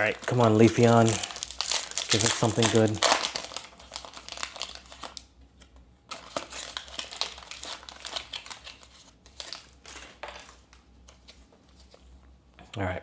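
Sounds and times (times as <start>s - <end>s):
foil wrapper crinkling: 0.0s - 5.3s, 6.1s - 11.4s.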